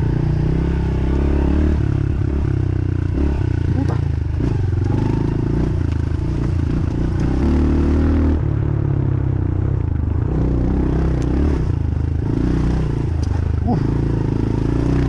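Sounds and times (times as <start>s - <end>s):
dirt bike engine revving: 0.0s - 8.4s, 10.4s - 15.0s.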